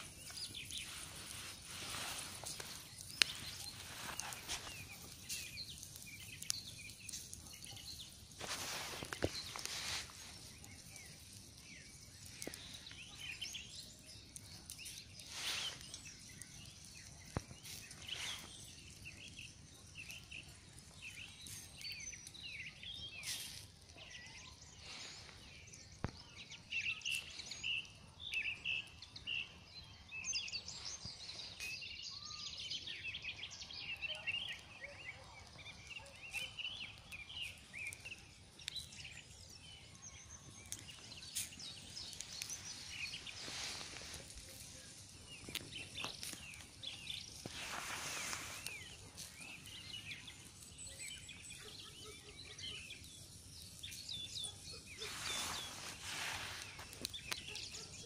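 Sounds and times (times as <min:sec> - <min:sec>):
campfire cracks: 0:00.0 - 0:58.0
songbirds chirping: 0:00.0 - 0:58.0.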